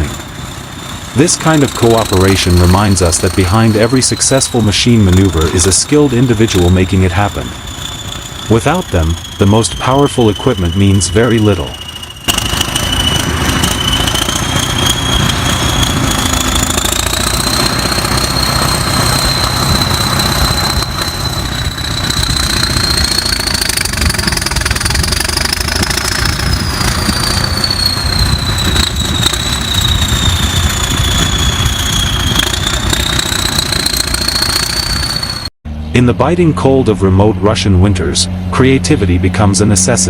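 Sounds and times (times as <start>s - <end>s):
diesel engine rumbling: 0.0s - 40.0s
high whine rising and falling: 0.0s - 40.0s.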